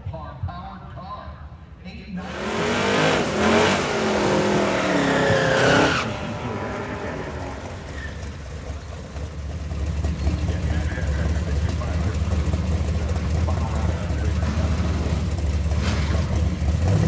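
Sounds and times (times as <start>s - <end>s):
racing car engine accelerating: 2.2s - 17.0s
rough engine running: 2.2s - 17.0s.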